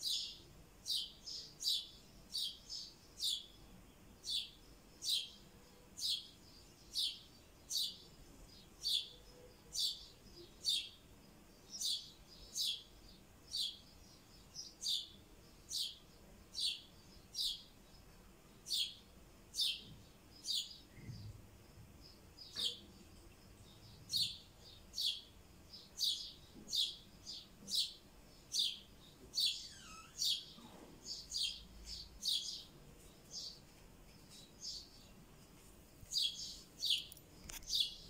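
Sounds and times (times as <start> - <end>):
lovebird chirping: 0.0 - 35.2, 36.0 - 38.0.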